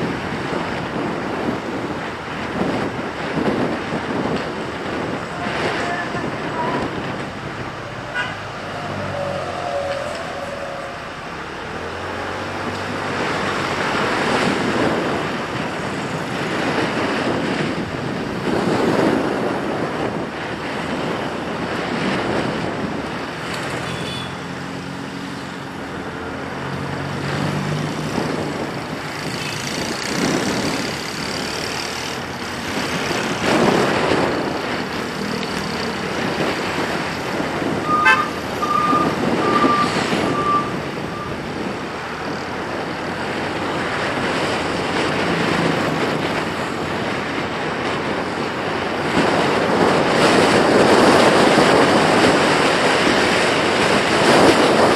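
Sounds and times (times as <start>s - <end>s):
motor vehicles passing: 0.0s - 54.9s.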